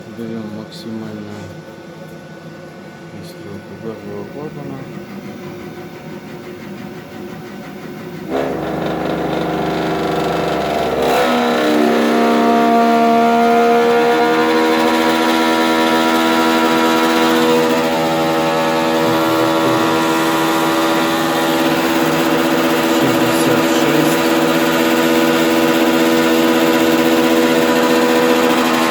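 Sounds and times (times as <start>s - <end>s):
gas boiler burner noise: 0.0s - 28.9s
loud hum of steady tones: 2.4s - 28.9s.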